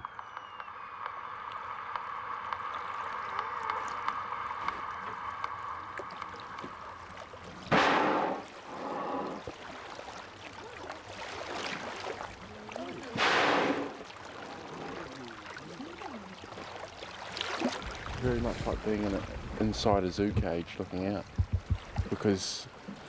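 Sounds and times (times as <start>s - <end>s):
faint moving water: 0.0s - 23.0s
whales blowing: 0.1s - 20.2s.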